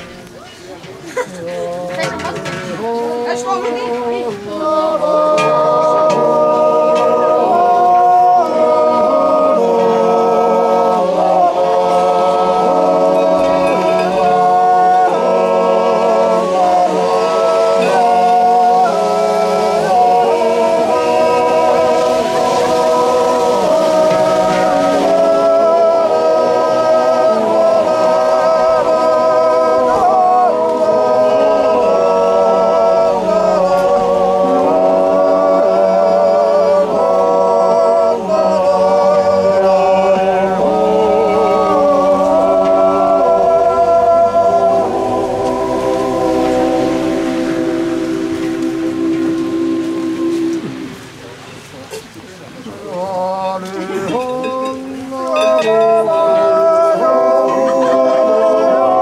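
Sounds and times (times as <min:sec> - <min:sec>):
group yodeling in several voices: 0:00.9 - 0:51.2, 0:52.7 - 0:59.0.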